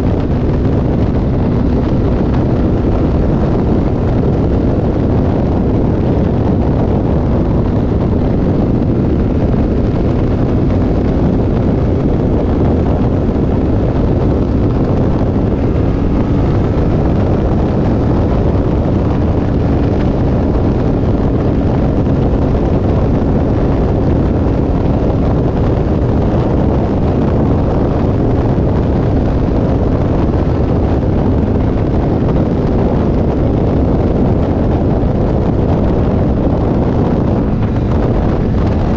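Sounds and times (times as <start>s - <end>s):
motorcycle engine drone: 0.0s - 38.9s
wind buffeting microphone: 0.0s - 38.9s.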